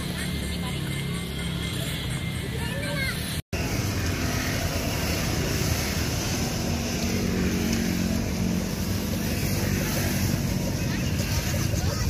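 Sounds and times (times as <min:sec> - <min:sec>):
motorcycle traffic rumble: 0:00.0 - 0:12.0.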